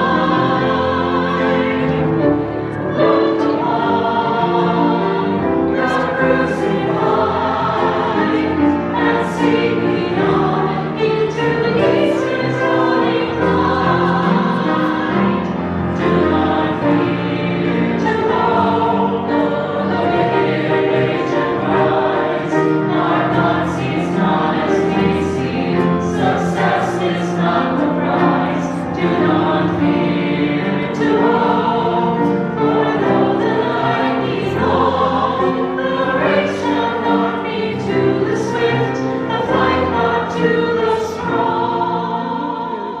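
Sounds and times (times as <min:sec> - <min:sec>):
choir singing a hymn: 0:00.0 - 0:43.0.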